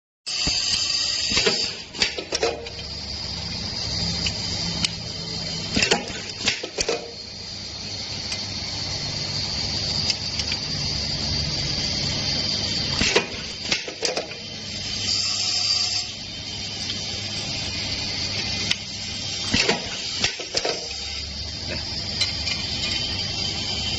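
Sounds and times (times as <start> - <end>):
machine hiss and low hum: 0.3 - 23.9.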